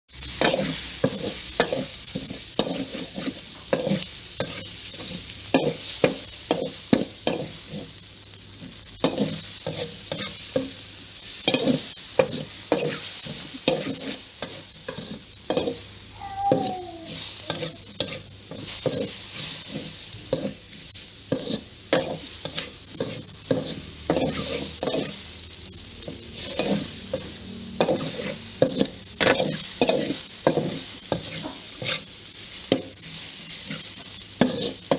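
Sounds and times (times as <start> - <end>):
food sizzling in a pan: 0.1 - 34.9
spatula scraping a pan: 0.2 - 15.9, 16.5 - 25.3, 26.0 - 34.9.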